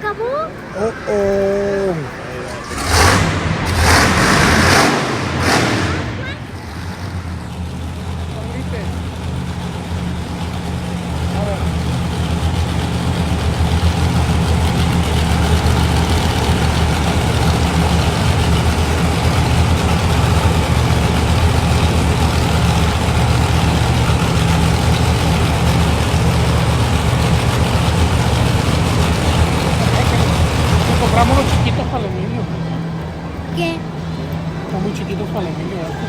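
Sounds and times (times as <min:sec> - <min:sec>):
truck engine idling loudly: 0:00.0 - 0:36.0.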